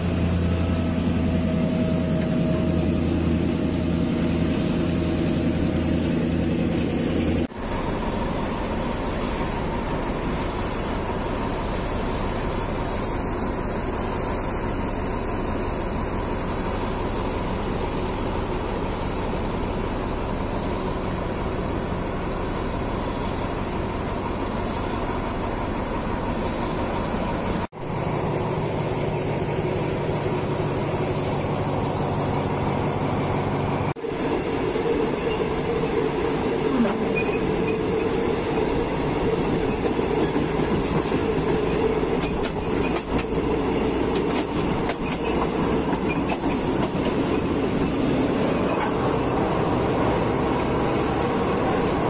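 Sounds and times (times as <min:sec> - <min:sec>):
locomotive idling hum: 0:00.0 - 0:52.0
train running rumble: 0:00.0 - 0:52.0.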